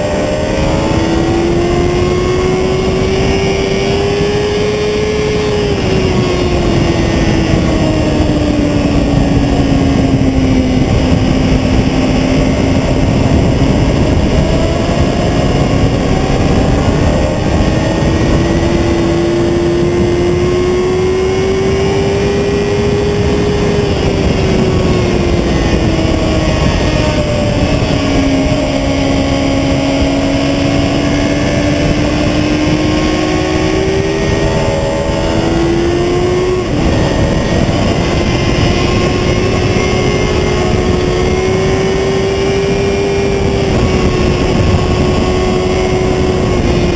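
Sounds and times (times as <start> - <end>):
motorcycle engine revving: 0.0 - 46.9
wind rush on microphone: 0.0 - 46.9.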